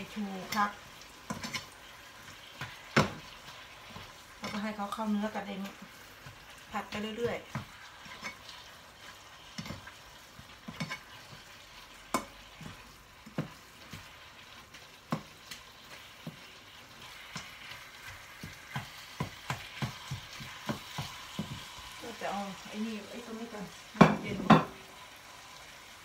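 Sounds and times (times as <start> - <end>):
spatula tapping and scraping pan: 0.0 - 21.8, 24.0 - 24.8
meat sizzling in a frying pan: 0.0 - 26.0.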